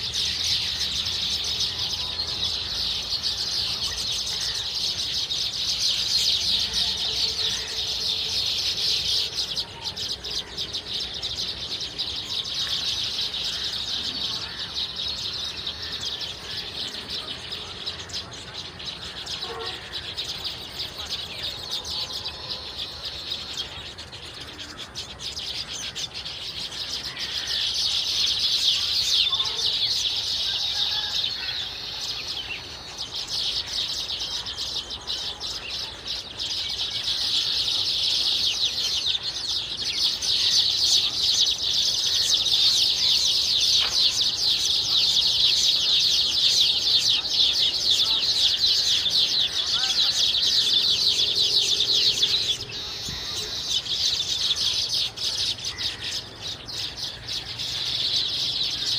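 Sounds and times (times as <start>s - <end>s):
flock of birds chorus: 0.0s - 58.9s.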